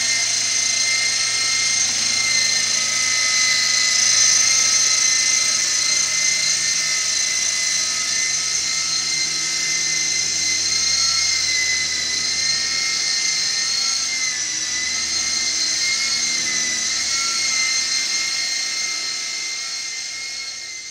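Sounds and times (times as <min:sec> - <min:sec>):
toy helicopter motor whine: 0:00.0 - 0:20.9.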